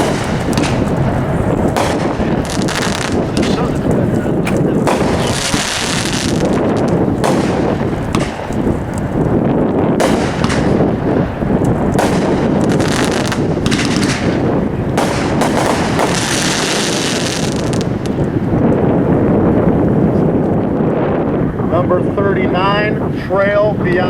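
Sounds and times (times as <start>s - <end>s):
fireworks shots and aerial bursts: 0.0s - 24.0s.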